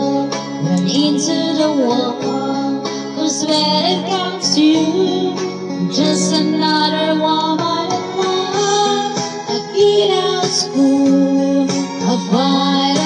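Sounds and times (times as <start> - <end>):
backing music: 0.0 - 13.0
woman singing into microphone: 0.0 - 13.0.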